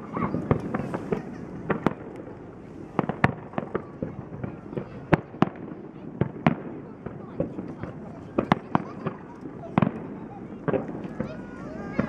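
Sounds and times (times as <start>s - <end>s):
firework shells bursting: 0.0s - 11.3s.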